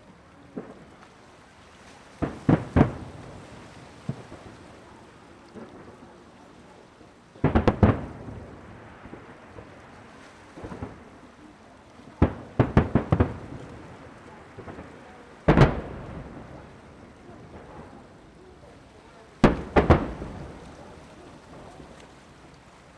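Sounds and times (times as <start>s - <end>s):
fireworks bursting: 2.0s - 22.7s.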